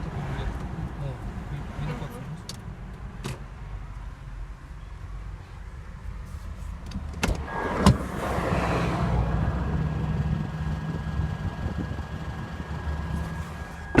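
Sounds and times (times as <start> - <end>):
car high whine: 0.0 - 14.0
low engine rumble: 0.0 - 14.0.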